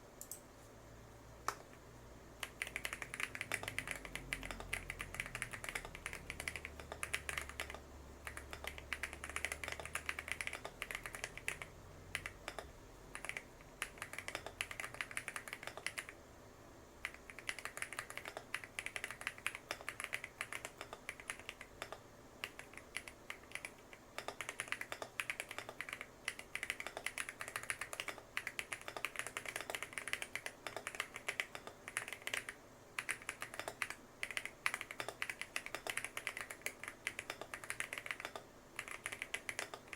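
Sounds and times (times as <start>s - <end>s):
fast mechanical keyboard typing: 2.4s - 16.2s, 17.0s - 39.9s.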